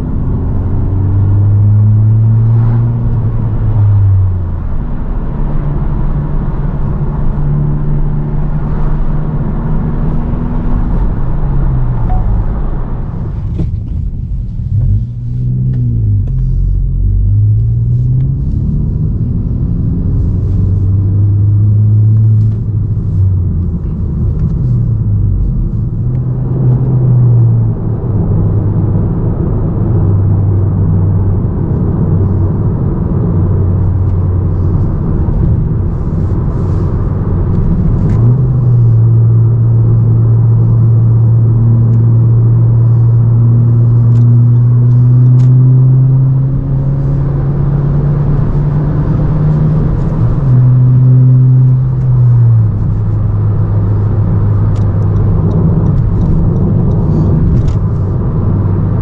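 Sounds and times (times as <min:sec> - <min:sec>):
car engine and exhaust while driving: 0:00.0 - 0:59.0.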